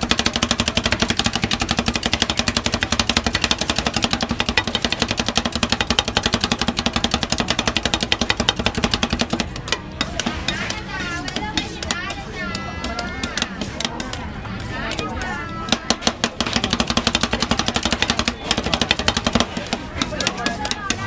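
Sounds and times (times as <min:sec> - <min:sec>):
spatulas chopping on steel plate: 0:00.0 - 0:21.0.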